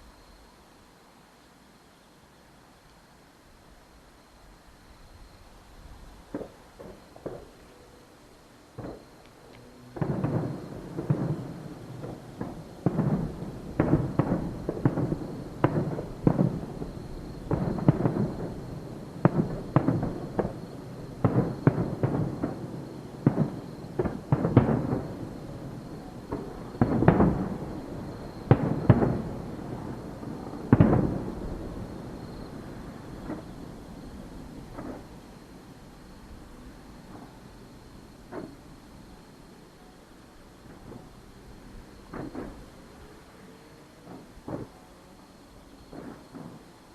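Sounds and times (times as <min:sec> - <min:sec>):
fireworks bursting with echoes: 0:05.4 - 0:46.9.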